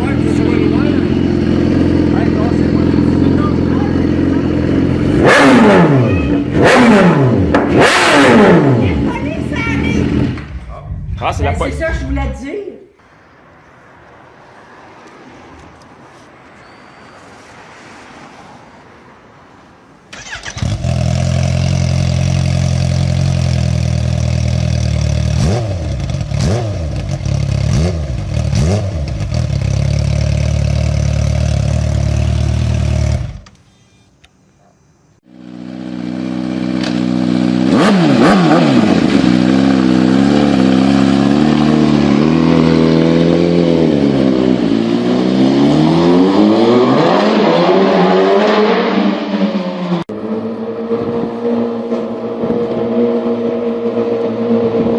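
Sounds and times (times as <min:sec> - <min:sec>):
motorcycle engine revving: 0:00.0 - 0:12.2, 0:20.1 - 0:33.6, 0:35.2 - 0:54.9.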